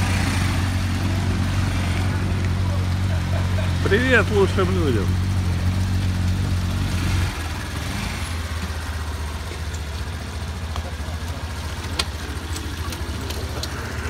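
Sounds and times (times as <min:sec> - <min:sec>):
small motorcycle engine idling: 0:00.0 - 0:14.0.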